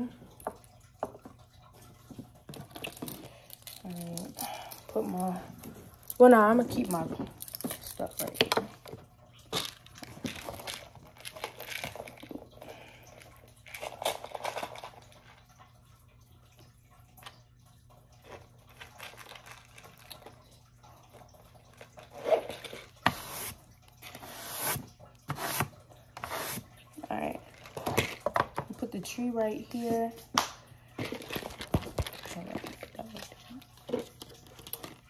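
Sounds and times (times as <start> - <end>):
rustling and crinkling: 0.6 - 15.6, 18.2 - 25.6, 26.2 - 28.8, 30.9 - 35.0.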